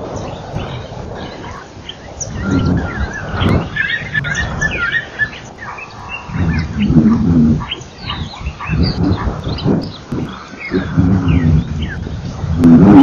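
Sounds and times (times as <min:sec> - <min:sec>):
birds chirping and calling: 0:00.0 - 0:13.0
low pitched rumble: 0:00.0 - 0:13.0.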